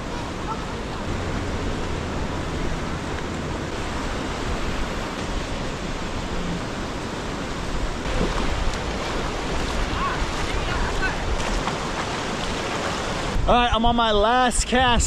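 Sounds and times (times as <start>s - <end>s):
ocean surf: 0.0s - 14.4s
wind on a beach: 0.0s - 15.0s.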